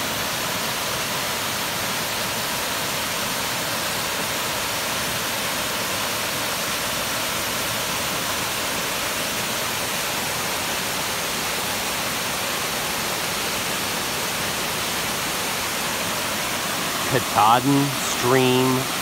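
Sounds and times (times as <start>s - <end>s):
waterfall cascading over rocks: 0.0s - 19.0s.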